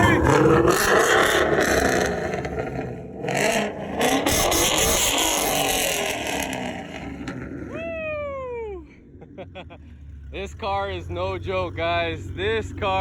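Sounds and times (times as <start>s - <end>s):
car engine revving: 0.0s - 8.0s, 8.9s - 13.0s.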